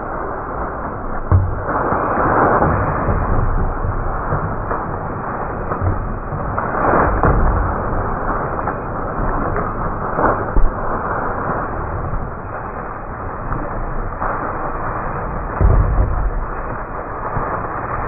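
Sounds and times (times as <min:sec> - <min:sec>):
steady noisy rumble: 0:00.0 - 0:18.0.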